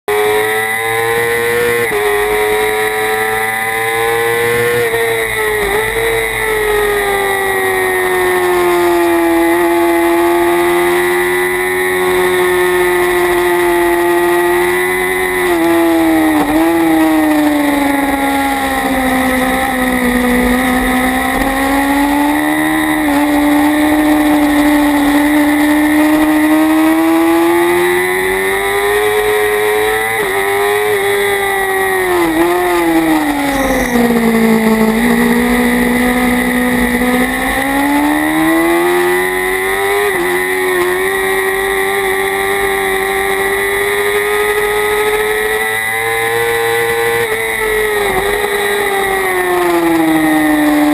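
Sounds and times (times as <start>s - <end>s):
motorcycle engine revving hard: 0.0s - 50.9s.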